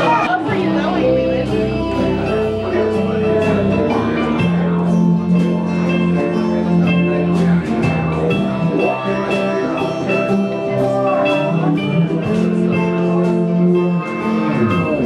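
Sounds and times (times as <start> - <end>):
guitar-like notes: 0.0 - 15.0
steady drum beat: 0.0 - 15.0.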